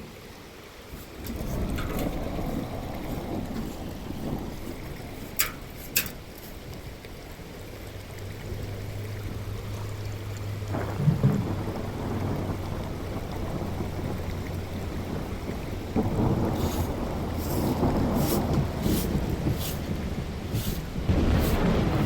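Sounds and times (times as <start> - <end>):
rain: 0.0 - 22.0
thunder rumbling: 0.9 - 22.0.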